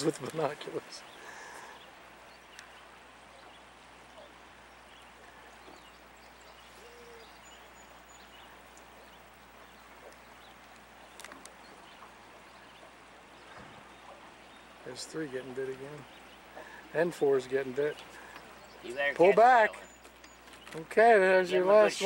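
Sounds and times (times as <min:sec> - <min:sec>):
wind and water hiss: 0:00.0 - 0:22.0
faint bird calls: 0:00.8 - 0:20.9.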